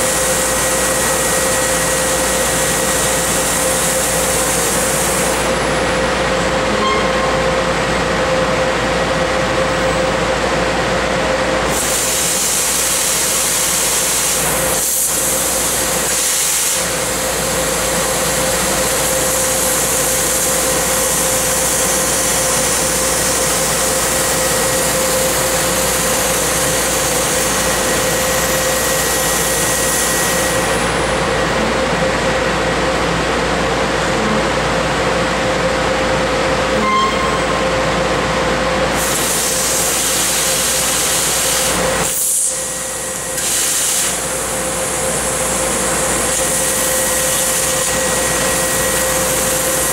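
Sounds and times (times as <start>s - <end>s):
laser cutter hissing over hum: 0.0s - 49.9s.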